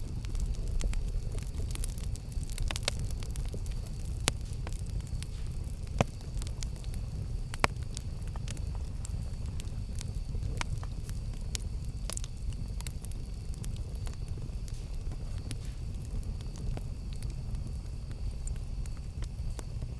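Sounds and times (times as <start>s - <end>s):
campfire crackling: 0.0s - 19.9s
campfire pops: 0.0s - 19.9s
low steady rumble: 0.0s - 19.9s.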